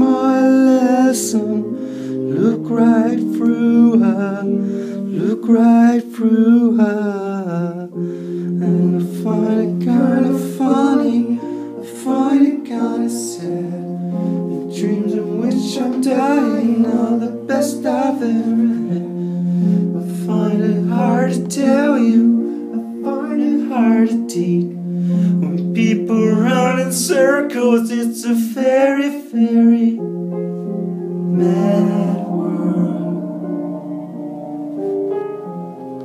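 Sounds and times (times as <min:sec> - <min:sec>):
person singing slow song: 0:00.0 - 0:35.2
long held instrumental notes: 0:00.0 - 0:36.0.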